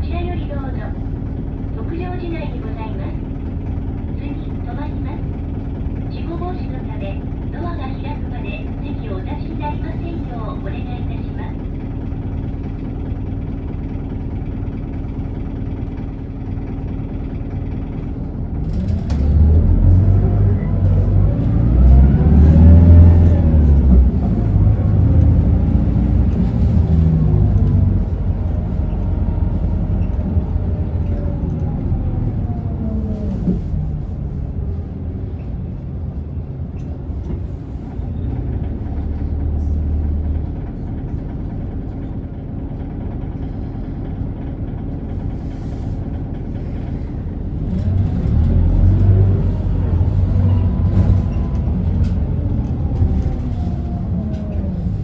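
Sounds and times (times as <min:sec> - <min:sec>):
bus engine and drivetrain whine: 0:00.0 - 0:55.0.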